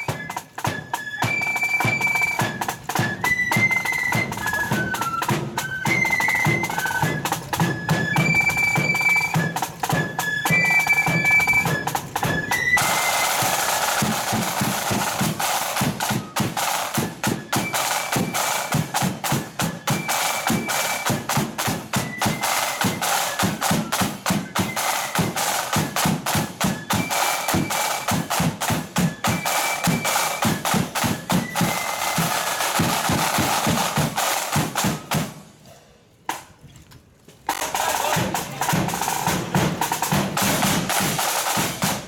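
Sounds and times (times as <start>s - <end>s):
snare drums rattling beat: 0.0s - 35.5s, 37.5s - 42.0s.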